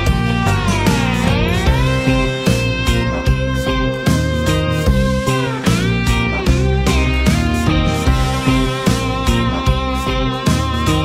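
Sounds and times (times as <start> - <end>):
guitar music over steady beat: 0.0 - 11.0.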